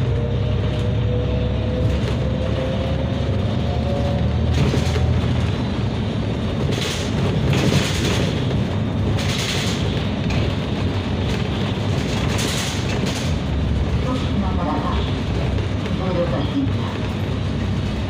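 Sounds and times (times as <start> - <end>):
bus engine running: 0.0 - 18.0
road noise: 0.0 - 18.0.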